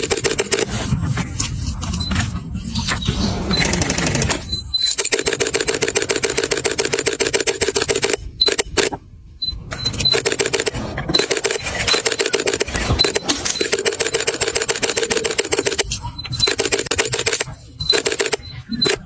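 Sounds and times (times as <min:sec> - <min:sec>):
rapid dense clicking: 0:00.0 - 0:19.0.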